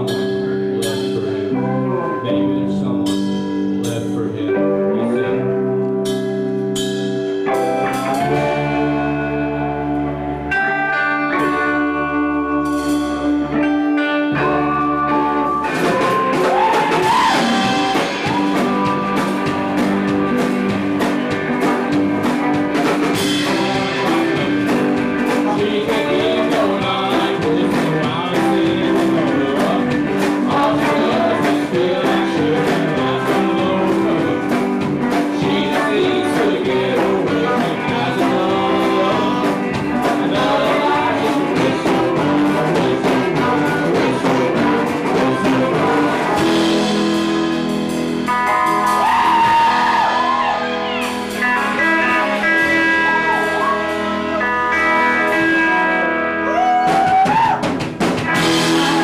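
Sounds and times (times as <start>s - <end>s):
drum kit: 0.0s - 4.4s, 5.0s - 59.0s
low bass notes: 0.0s - 56.8s, 57.7s - 59.0s
guitar playing held chords: 0.0s - 57.1s, 57.8s - 59.0s.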